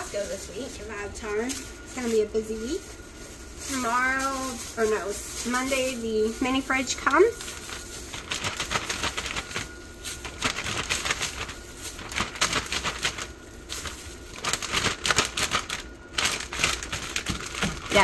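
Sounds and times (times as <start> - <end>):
plastic bag crinkling: 0.0 - 18.0
plastic glove rustling: 0.0 - 18.0.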